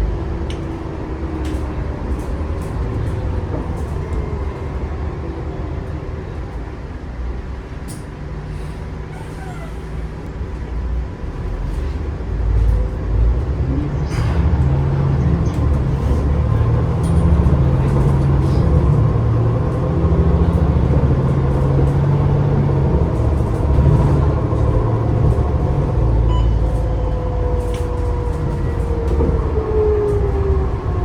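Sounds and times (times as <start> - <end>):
bus engine drone: 0.0 - 31.0.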